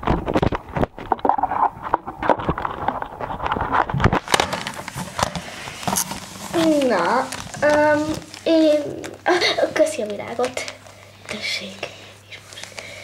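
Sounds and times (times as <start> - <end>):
objects being handled: 0.0 - 13.0.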